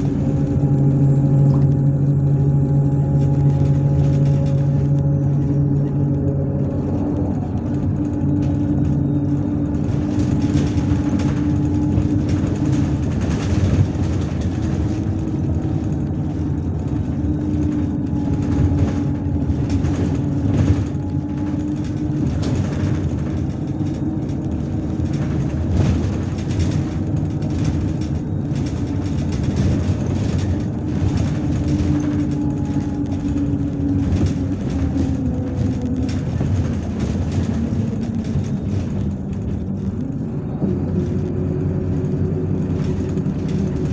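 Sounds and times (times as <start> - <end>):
knocks and rattles: 0.0 - 40.3
bus diesel engine running: 0.0 - 43.9
road rumble: 0.0 - 43.9.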